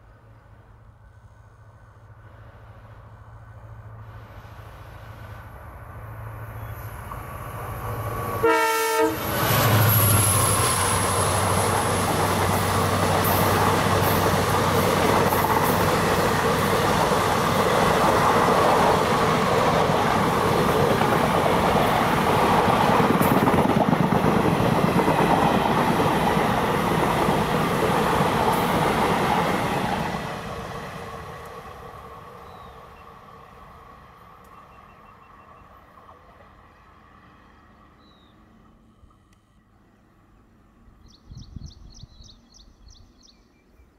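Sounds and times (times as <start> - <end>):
locomotive engine passing: 2.0 - 39.2.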